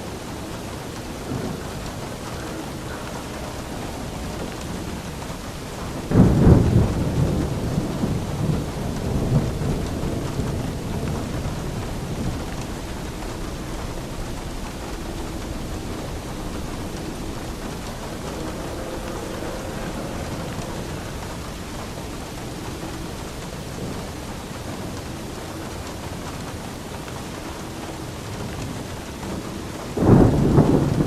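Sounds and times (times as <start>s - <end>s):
steady rain: 0.0s - 31.0s
thunder clap and rumble: 0.0s - 31.0s.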